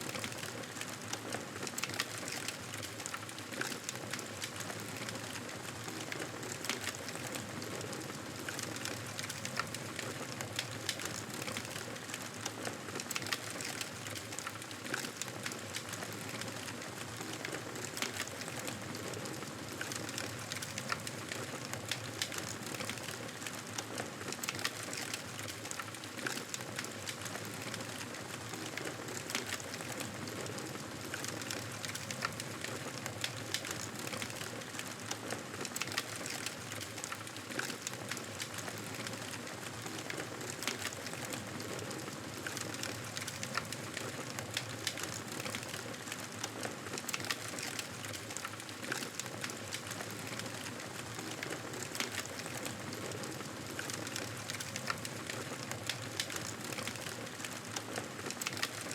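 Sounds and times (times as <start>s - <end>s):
campfire crackling and popping: 0.1s - 58.9s.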